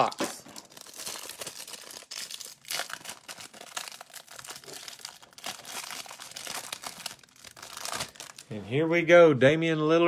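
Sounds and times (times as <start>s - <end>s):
plastic wrapper crinkling: 0.0s - 8.6s.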